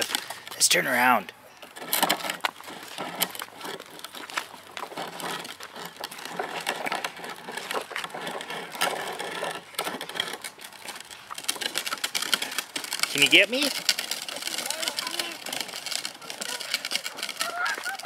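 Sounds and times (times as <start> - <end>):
toy bike wheels rolling on pavement: 0.0 - 18.0.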